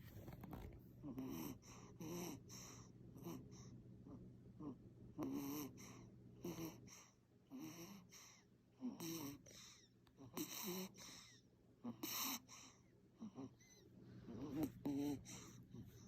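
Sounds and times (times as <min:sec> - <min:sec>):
infant snoring: 0:01.0 - 0:16.0.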